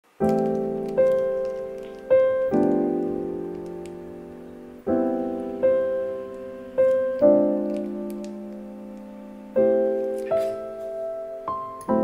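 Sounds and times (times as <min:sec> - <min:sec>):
slow solo piano: 0:00.1 - 0:12.0.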